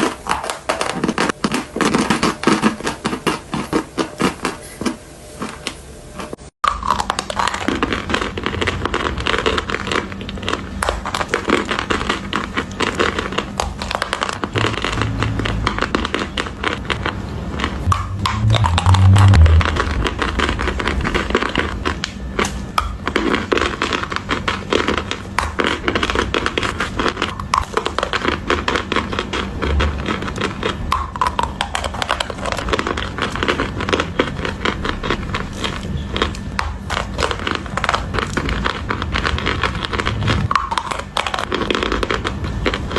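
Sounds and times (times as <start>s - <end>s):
chalk crunching being chewed: 0.0s - 42.9s.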